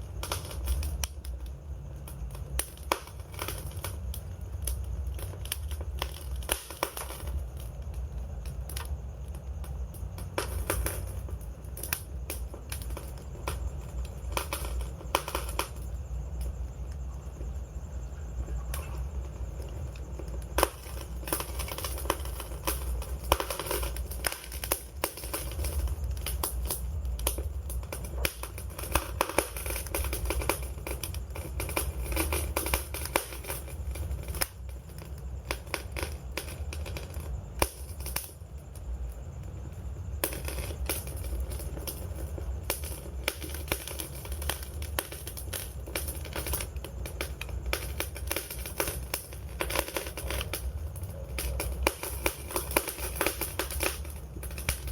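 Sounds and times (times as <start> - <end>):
burning wood popping and snapping: 0.0 - 17.6, 18.4 - 54.9
flames rumbling: 0.0 - 54.9.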